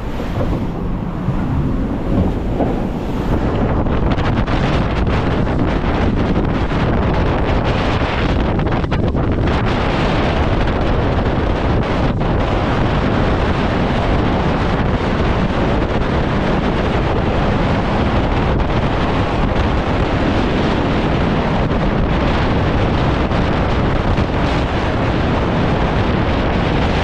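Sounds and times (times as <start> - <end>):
water rushing along hull: 0.0 - 27.0
wind buffeting microphone: 0.0 - 27.0.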